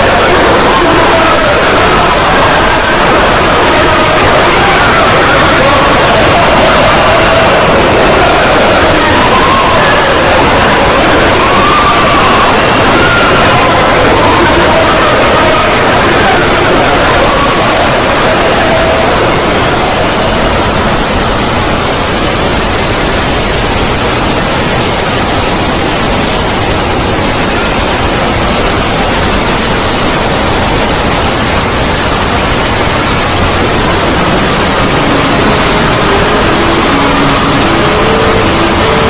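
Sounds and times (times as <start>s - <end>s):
harsh distorted static noise: 0.0s - 39.0s.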